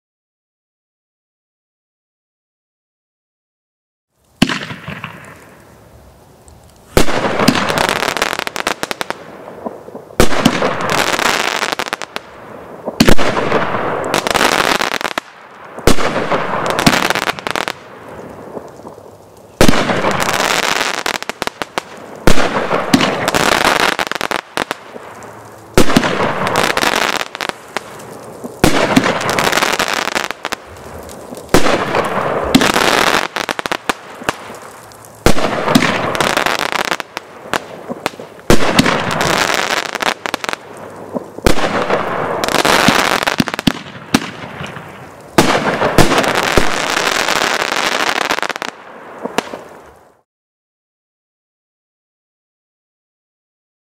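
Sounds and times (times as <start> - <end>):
firework crackling: 4.2 - 50.3
firework bangs: 4.4 - 5.9, 6.9 - 50.2.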